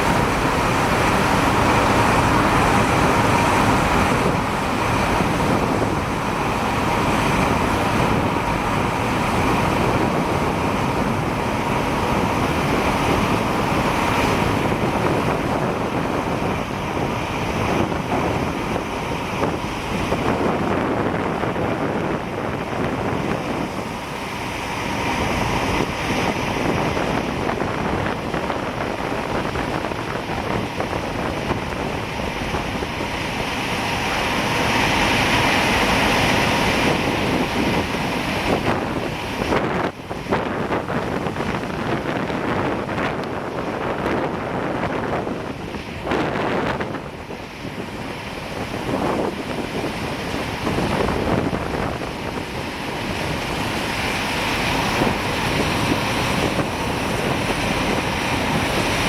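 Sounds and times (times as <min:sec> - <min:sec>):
propeller plane engine drone: 0:00.0 - 0:59.0
rushing air: 0:00.0 - 0:59.0.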